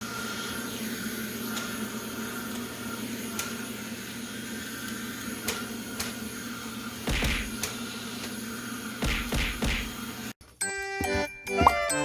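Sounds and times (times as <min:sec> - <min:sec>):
vacuum cleaner motor humming: 0:00.0 - 0:10.4.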